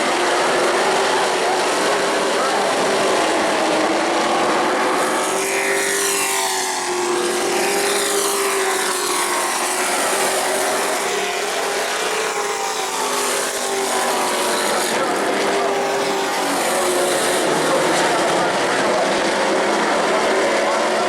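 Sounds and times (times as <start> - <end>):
race truck engines passing: 0.0 - 21.0.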